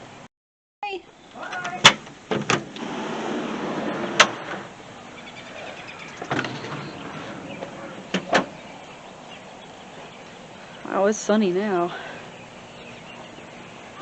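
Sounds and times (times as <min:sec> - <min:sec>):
rustle: 0:00.8 - 0:14.0.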